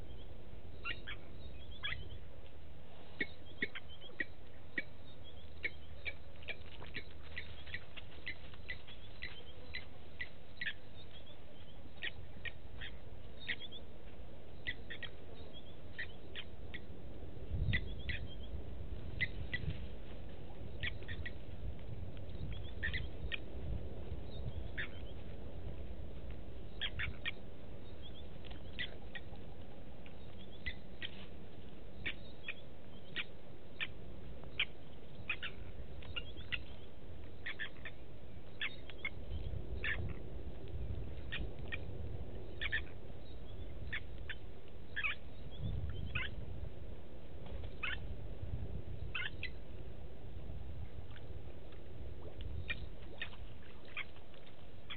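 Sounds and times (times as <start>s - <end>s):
birds calling tink: 0.0s - 2.5s, 3.1s - 19.8s, 20.5s - 25.3s, 26.5s - 46.4s, 47.5s - 48.2s, 48.8s - 49.8s, 50.8s - 54.9s.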